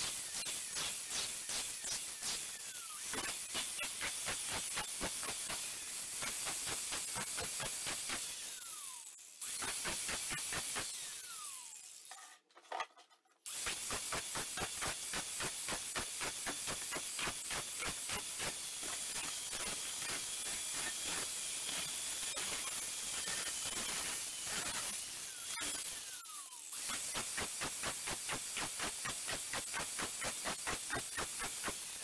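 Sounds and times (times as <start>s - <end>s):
angle grinder grinding metal: 0.0s - 32.0s.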